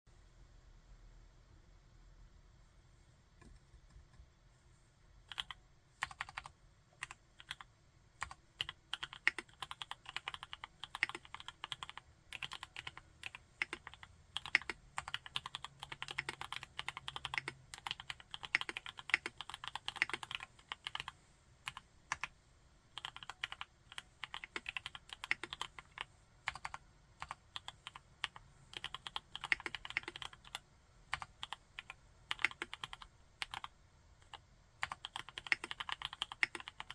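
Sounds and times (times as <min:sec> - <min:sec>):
mechanical keyboard typing: 0:05.3 - 0:22.4, 0:23.0 - 0:36.9.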